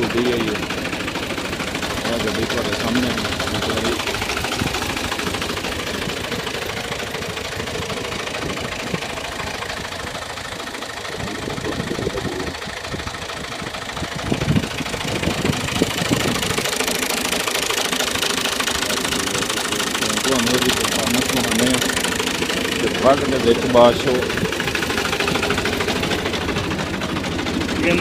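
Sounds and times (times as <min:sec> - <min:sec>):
sharp engine knocks: 0:00.0 - 0:28.0
tractor diesel engine running: 0:00.0 - 0:28.0.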